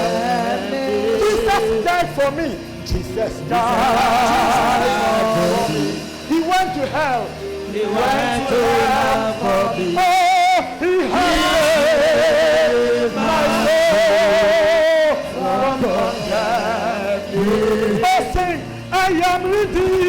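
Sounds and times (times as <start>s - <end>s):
gospel worship music: 0.0s - 20.0s
man singing with vibrato: 0.0s - 20.0s.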